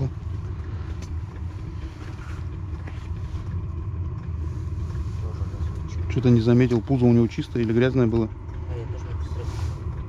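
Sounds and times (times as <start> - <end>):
snowmobile engine running: 0.0 - 10.0.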